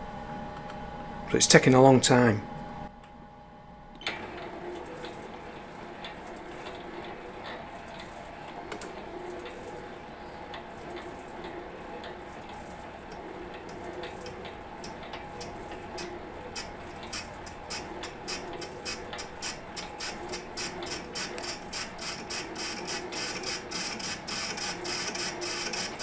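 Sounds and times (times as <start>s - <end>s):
motor and gear hum: 3.9s - 26.0s
metal lathe running: 4.1s - 26.0s.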